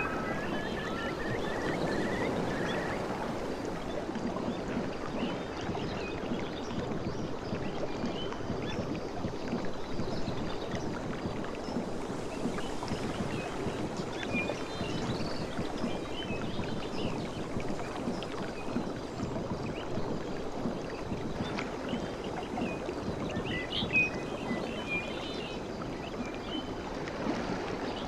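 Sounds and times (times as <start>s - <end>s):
sea water lapping on beach: 0.0s - 28.0s.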